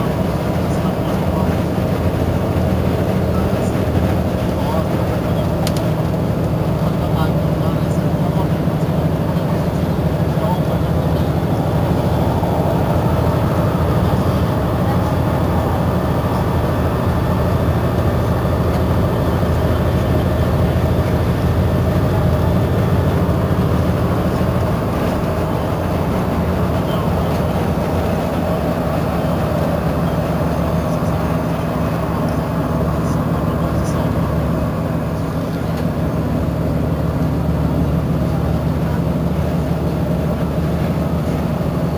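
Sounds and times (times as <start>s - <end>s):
diesel bus engine rumbling: 0.0s - 41.9s.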